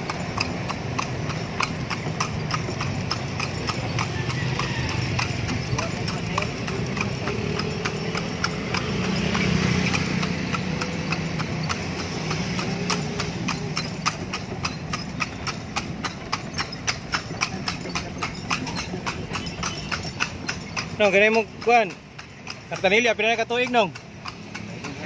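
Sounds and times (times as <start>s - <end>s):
horse hooves clip-clopping on asphalt: 0.0s - 25.0s.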